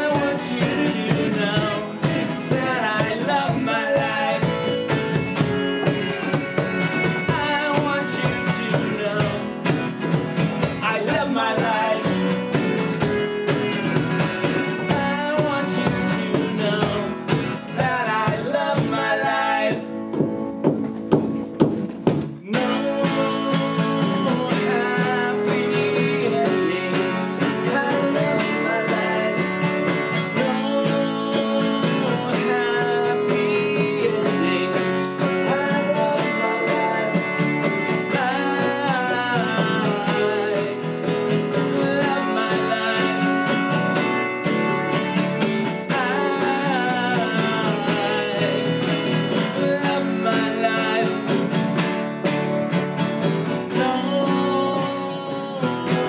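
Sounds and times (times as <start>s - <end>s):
lead voice singing: 0.0s - 13.2s, 14.4s - 20.0s, 22.3s - 51.6s, 53.6s - 56.0s
live rock band playing: 0.0s - 56.0s.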